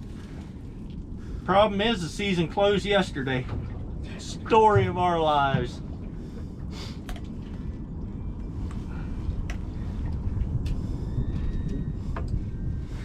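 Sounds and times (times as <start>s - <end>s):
boat noise: 0.0s - 13.0s
wind rumble: 0.0s - 13.0s.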